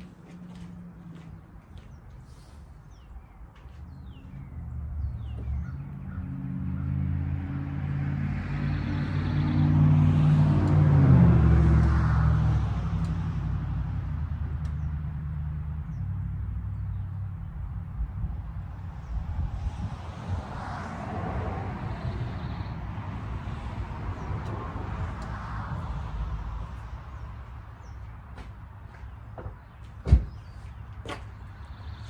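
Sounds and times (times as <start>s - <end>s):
vehicle passing by: 3.8s - 32.0s.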